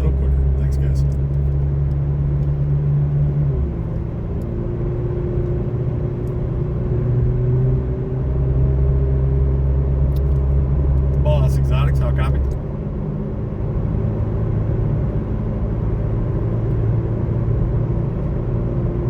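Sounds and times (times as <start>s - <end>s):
car drivetrain low drone: 0.0s - 19.0s.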